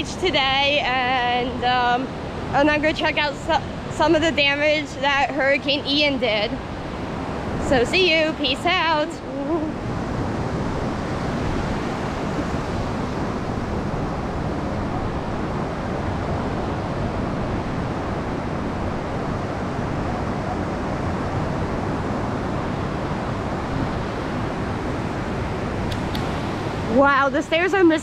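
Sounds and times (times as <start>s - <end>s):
ocean surf: 0.0s - 28.0s
wind on microphone: 0.0s - 28.0s.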